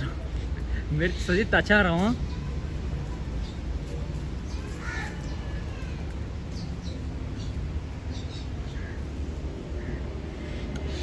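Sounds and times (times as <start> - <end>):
birds calling: 0.0 - 11.0
steady low rumble: 2.2 - 11.0.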